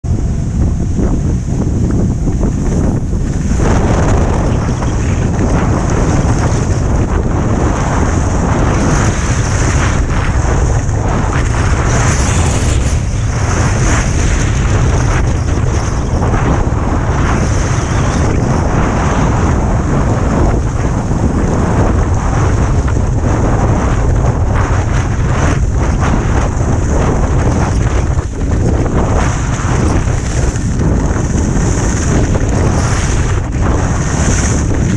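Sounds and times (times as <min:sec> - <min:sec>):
wind buffeting microphone: 0:00.0 - 0:34.9
skis scraping over snow: 0:00.6 - 0:34.9.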